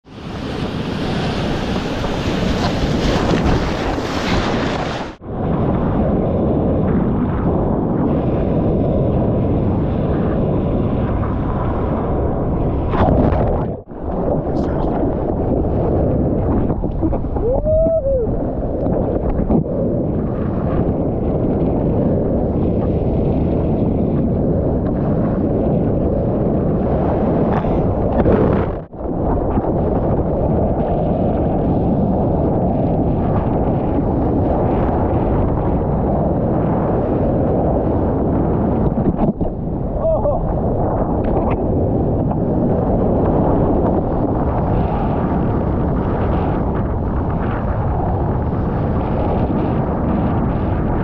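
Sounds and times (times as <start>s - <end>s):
heavy surf: 0.0s - 51.0s
wind buffeting microphone: 0.0s - 51.0s.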